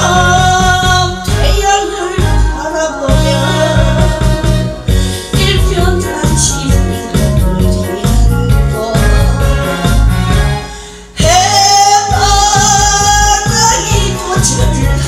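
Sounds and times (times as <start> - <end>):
backing music with steady beat: 0.0 - 15.0
woman singing into microphone: 0.0 - 15.0.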